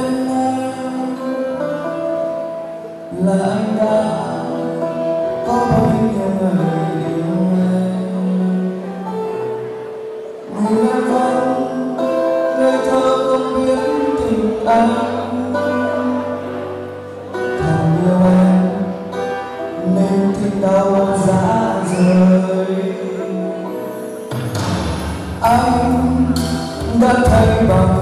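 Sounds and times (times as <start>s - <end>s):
man singing into a microphone: 0.0s - 24.2s, 25.3s - 28.0s
pop ballad backing music: 0.0s - 28.0s.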